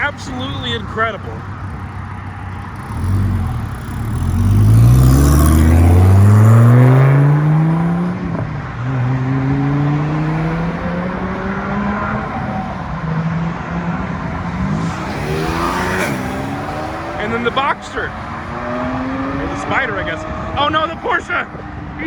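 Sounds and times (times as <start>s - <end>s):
sports car accelerating hard: 0.0s - 22.0s.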